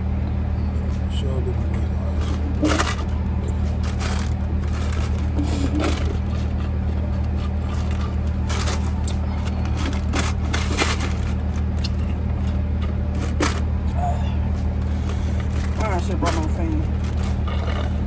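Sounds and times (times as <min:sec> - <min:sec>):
low hum inside car: 0:00.0 - 0:18.0
crunching food and packaging: 0:00.8 - 0:18.0.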